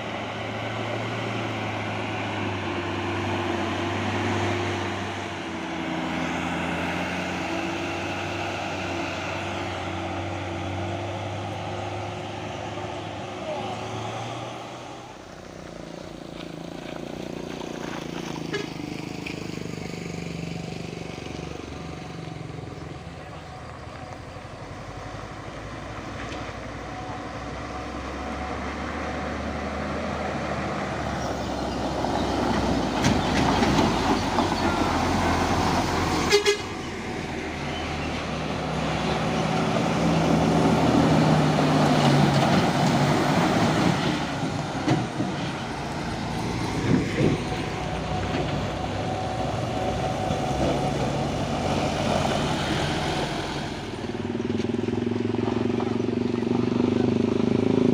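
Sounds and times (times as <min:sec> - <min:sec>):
diesel truck engine labouring: 0:00.0 - 0:57.9.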